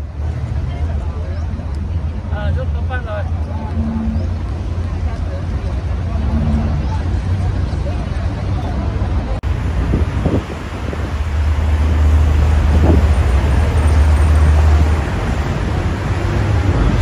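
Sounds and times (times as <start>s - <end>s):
heavy road traffic: 0.0s - 17.0s.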